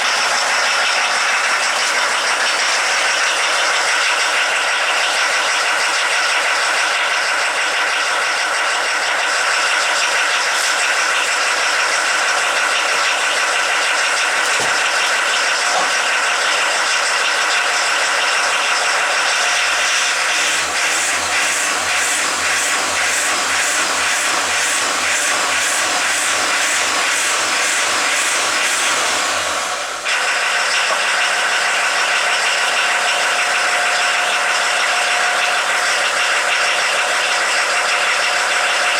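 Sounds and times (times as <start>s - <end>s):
diesel engine exhaust running: 0.0s - 38.9s.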